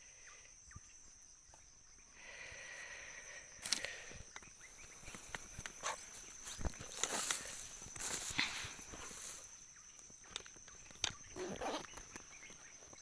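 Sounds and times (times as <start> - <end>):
high thin insect drone: 0.0 - 13.0.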